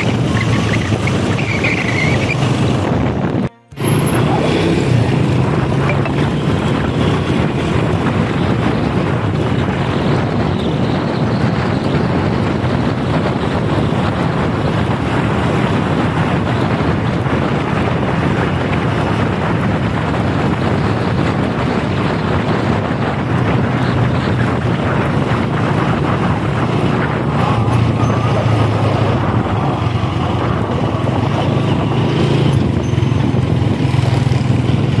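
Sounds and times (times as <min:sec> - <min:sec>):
motorcycle engine running: 0:00.0 - 0:35.0
wind rushing over microphone: 0:00.0 - 0:35.0.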